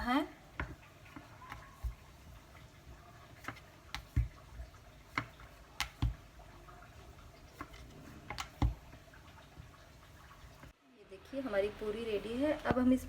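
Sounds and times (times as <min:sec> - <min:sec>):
rolling pin rolling dough: 0:00.0 - 0:10.7.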